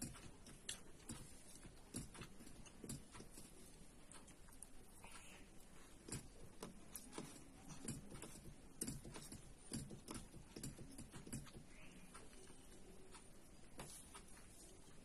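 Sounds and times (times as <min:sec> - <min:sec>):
soft eating clicks and smacks: 0:00.0 - 0:15.0.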